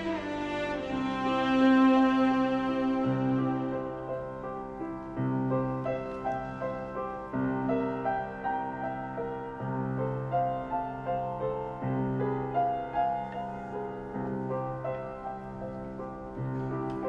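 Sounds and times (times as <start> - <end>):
calm piano music: 0.0 - 17.0.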